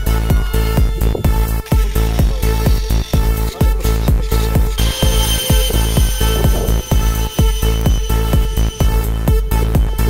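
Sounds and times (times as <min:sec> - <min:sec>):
electronic dance music: 0:00.0 - 0:10.0
heavy kick drum beat: 0:00.0 - 0:10.0.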